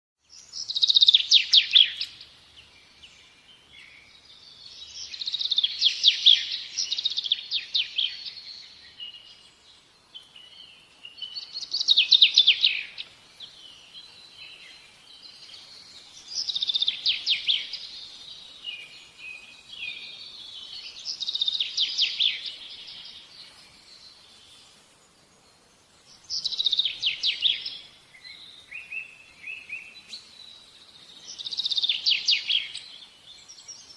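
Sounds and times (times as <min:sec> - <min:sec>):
songbird chirping trills: 0:00.2 - 0:33.9
soft bird twittering: 0:00.3 - 0:33.9.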